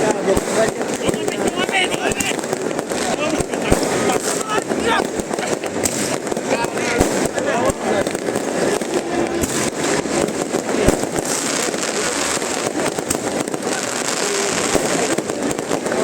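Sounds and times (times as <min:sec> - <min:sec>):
continuous din: 0:00.0 - 0:16.0
fireworks bangs and pops: 0:00.0 - 0:16.0.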